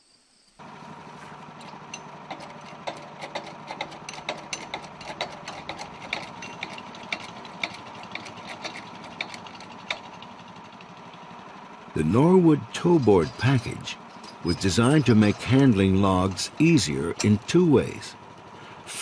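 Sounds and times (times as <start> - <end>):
small engine idling: 0.6 - 19.0.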